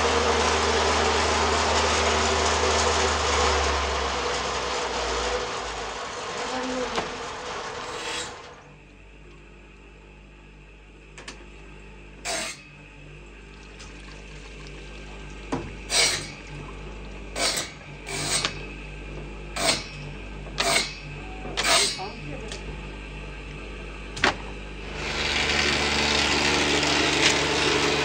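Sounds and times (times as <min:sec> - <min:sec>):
loud mechanical running noise: 0:00.0 - 0:28.0.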